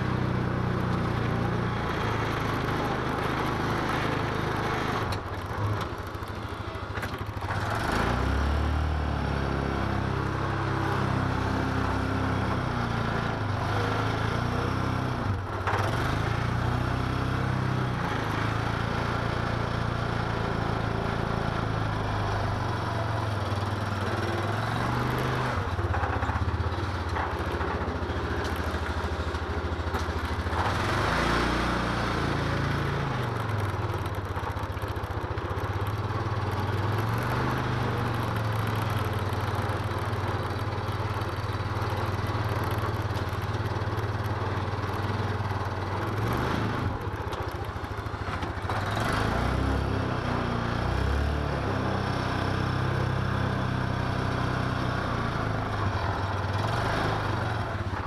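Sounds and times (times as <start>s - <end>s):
utility vehicle engine under load: 0.0s - 58.0s.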